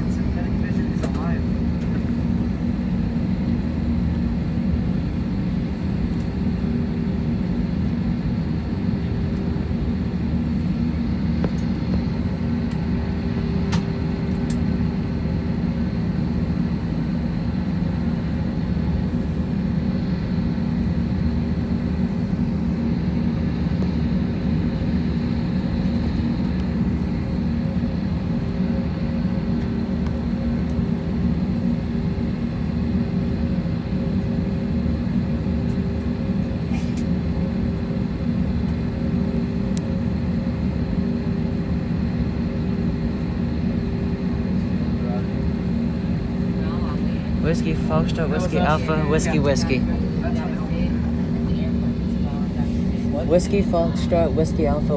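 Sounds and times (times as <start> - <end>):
air-conditioning hum: 0.0 - 54.9
aircraft cabin drone: 0.0 - 54.9.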